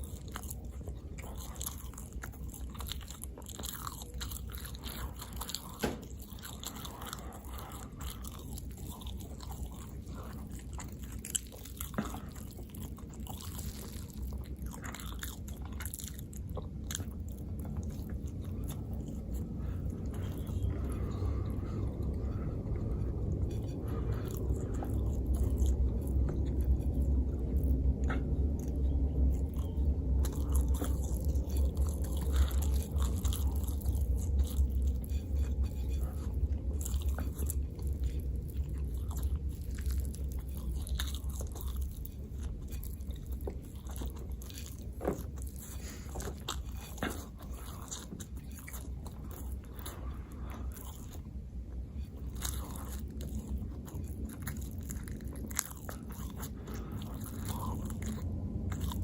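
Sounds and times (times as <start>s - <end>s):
low rumble: 0.0s - 59.0s
person chewing food: 0.0s - 59.0s.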